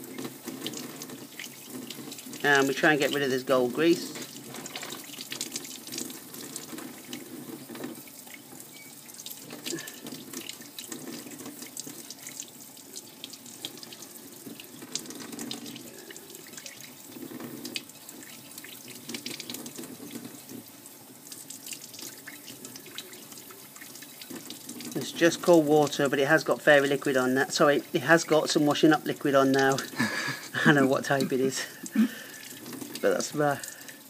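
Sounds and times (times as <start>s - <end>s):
water drips and spatters: 0.0s - 34.0s
water splashing into steel sink: 0.0s - 34.0s.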